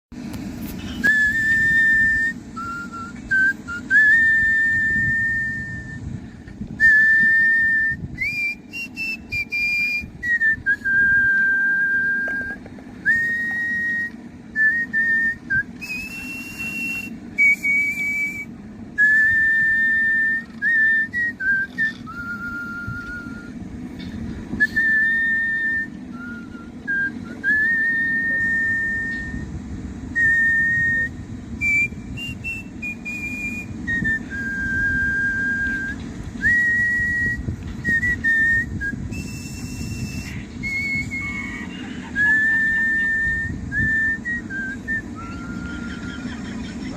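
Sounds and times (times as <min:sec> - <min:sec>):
low hum: 0:00.1 - 0:46.9
person whistling a melody: 0:01.0 - 0:06.1, 0:06.8 - 0:23.6, 0:24.6 - 0:29.5, 0:30.1 - 0:46.2.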